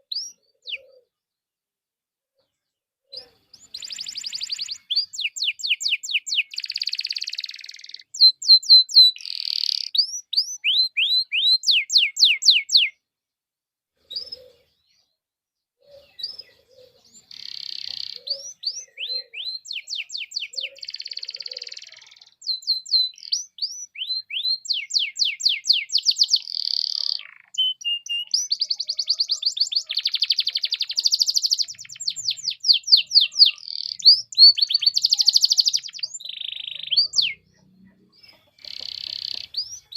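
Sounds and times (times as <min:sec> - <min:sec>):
canary singing trills: 0:00.0 - 0:01.2, 0:03.1 - 0:13.0, 0:14.1 - 0:15.1, 0:15.8 - 0:39.9.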